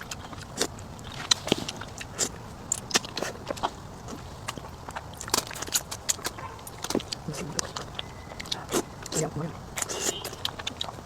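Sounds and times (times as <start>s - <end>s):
mouth biting and chewing: 0.0s - 11.0s.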